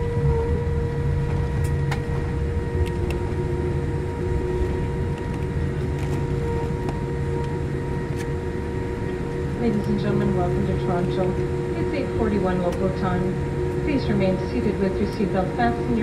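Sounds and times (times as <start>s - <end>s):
low cabin rumble: 0.0s - 16.0s
whining tones: 0.0s - 16.0s.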